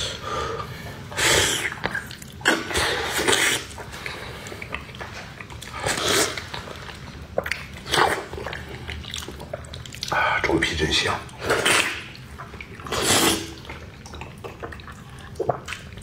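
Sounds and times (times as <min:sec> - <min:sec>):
wet slurping: 0:00.0 - 0:16.0
chewing: 0:01.6 - 0:10.2, 0:11.3 - 0:16.0.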